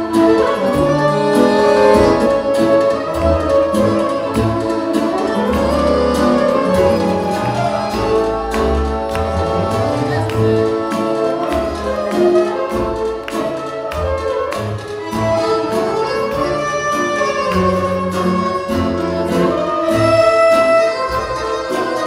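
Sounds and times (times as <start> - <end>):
band playing dance music: 0.0 - 22.0
violin melody: 0.0 - 22.0.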